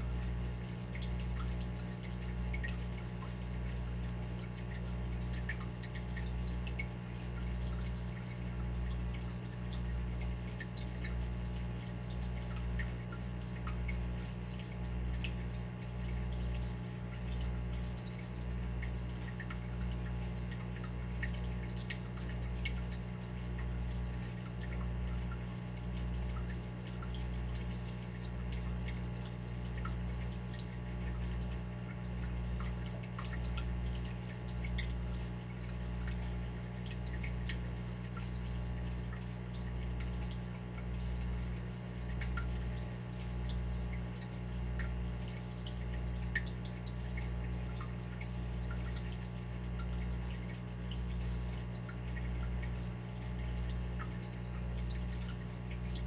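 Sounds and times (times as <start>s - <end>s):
water dripping: 0.0s - 56.0s.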